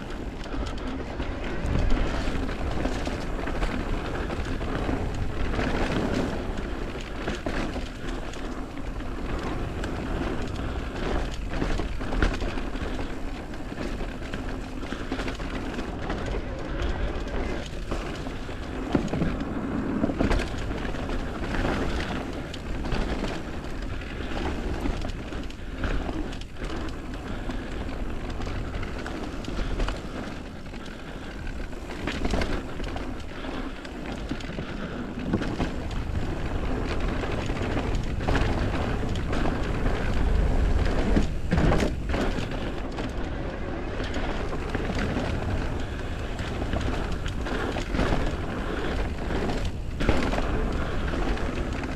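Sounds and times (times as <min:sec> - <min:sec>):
bike knocks and rattles: 0:00.0 - 0:51.9
bike tyres on dirt trail: 0:00.0 - 0:51.9.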